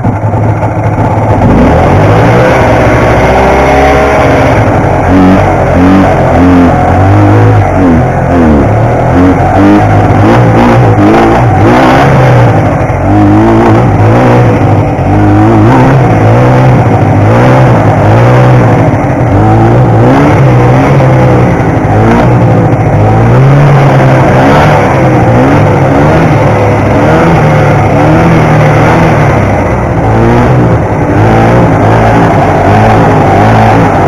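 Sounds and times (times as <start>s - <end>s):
snowmobile engine revving: 0.0s - 34.0s.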